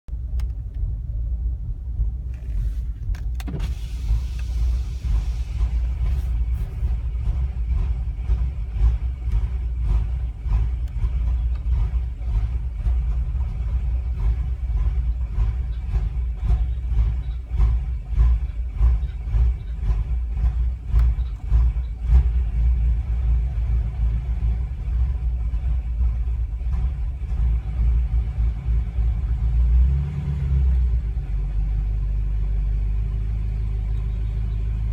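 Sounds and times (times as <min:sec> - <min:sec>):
car engine running unevenly: 0:00.1 - 0:34.9.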